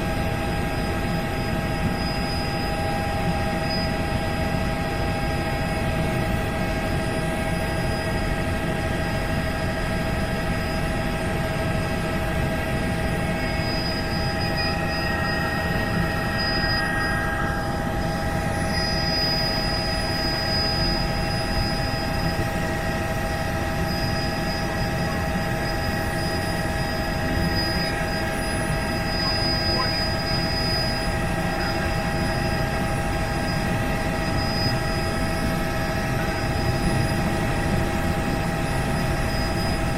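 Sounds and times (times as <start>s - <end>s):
constant whining tones: 0.0s - 39.9s
helicopter rotor and engine: 0.0s - 39.9s.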